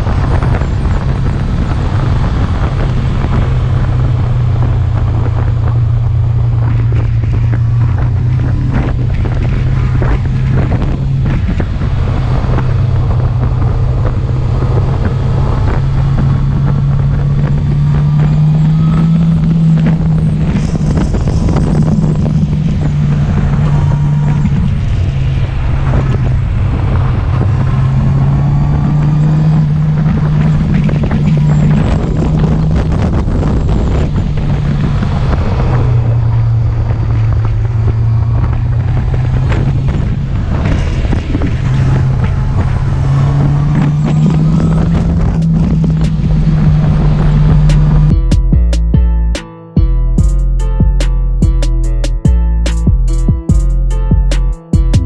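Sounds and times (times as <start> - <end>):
motorcycle engine running: 0.0 - 49.2, 49.8 - 55.0
wind noise on microphone: 0.0 - 49.3.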